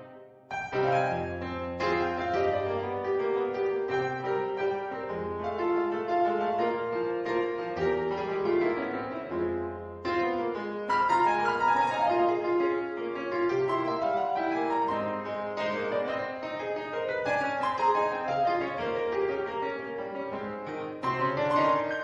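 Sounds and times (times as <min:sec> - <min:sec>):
instrumental keyboard music: 0:00.0 - 0:22.0.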